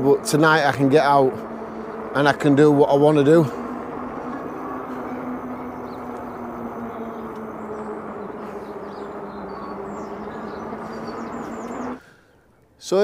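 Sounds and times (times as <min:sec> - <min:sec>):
electric bike motor hum: 0:00.0 - 0:12.5
tyres and air rushing: 0:00.7 - 0:12.3.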